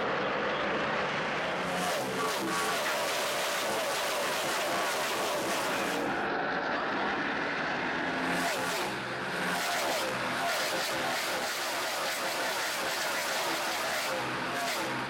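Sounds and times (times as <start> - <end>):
race cars passing at speed: 0.0 - 15.0.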